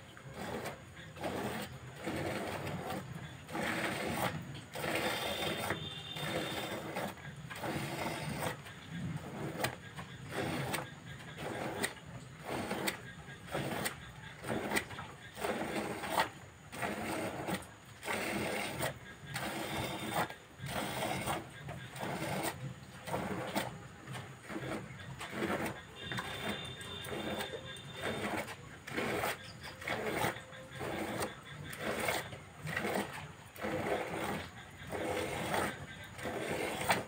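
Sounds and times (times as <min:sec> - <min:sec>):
milk squirting into bucket: 0:00.2 - 0:37.0.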